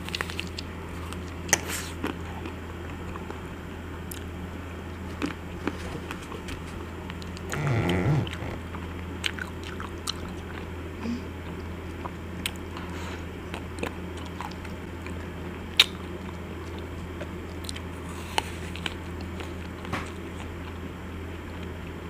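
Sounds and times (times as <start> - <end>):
chewing crunches: 0.0 - 3.4, 5.0 - 10.8, 13.4 - 22.0
low hum: 0.0 - 22.0.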